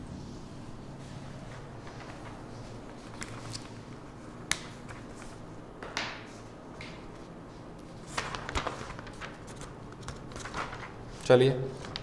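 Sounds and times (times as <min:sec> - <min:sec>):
paper rustling: 0:01.4 - 0:07.3, 0:07.9 - 0:12.0.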